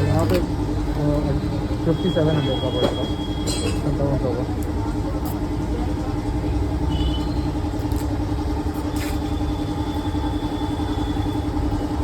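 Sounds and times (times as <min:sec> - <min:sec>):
droning engine hum: 0:00.0 - 0:12.0
road traffic rumble: 0:00.0 - 0:12.0.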